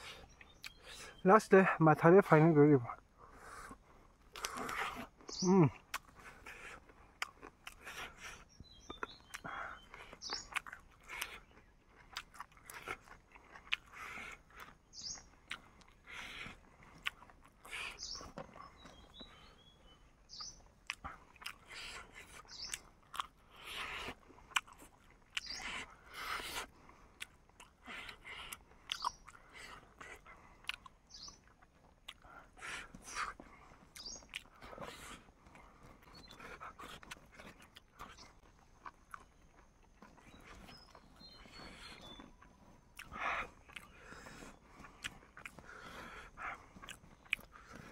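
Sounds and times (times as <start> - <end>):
chewing and crunching bone: 0.0 - 47.9
small bird chirping: 0.0 - 47.9.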